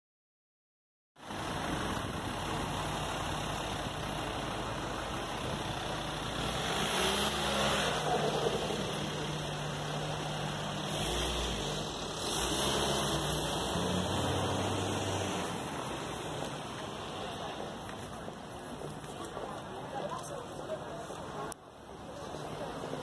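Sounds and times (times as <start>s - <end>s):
vehicle engine running: 1.2s - 21.6s
street traffic: 1.2s - 23.0s.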